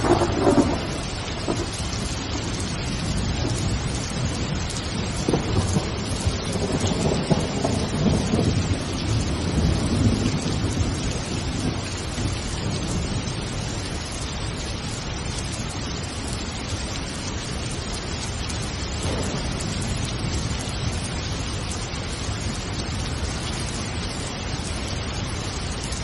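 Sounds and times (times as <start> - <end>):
thunder rumbling: 0.0 - 13.8, 18.6 - 26.0
steady rain: 0.0 - 26.0.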